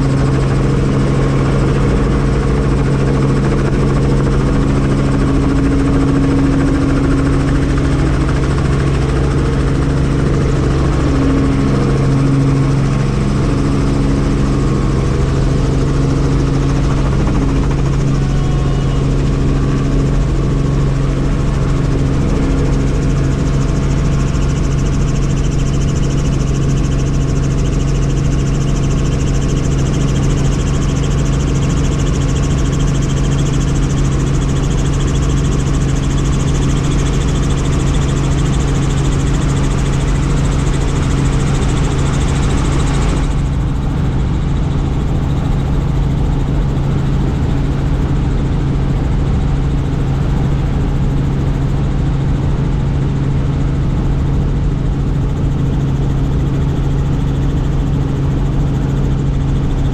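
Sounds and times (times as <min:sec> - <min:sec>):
helicopter turbine and rotor drone: 0:00.0 - 0:59.9.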